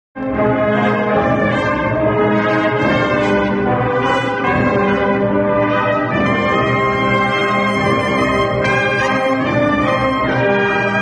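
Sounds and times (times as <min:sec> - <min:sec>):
brass band playing a march: 0:00.2 - 0:11.0.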